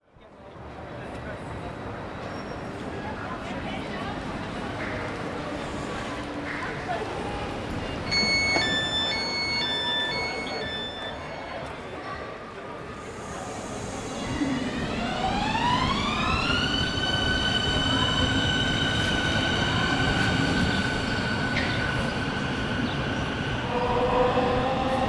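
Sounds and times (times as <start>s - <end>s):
low train rumble: 0.6s - 25.0s.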